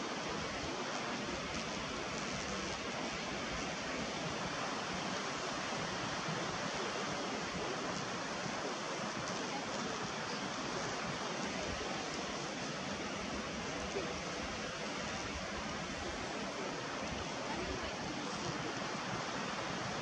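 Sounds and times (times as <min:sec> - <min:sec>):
sea: 0:00.0 - 0:20.0
wind: 0:00.0 - 0:20.0.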